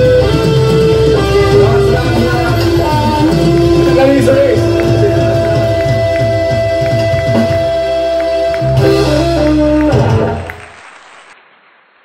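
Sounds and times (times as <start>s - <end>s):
live reggae band playing: 0.0s - 10.8s.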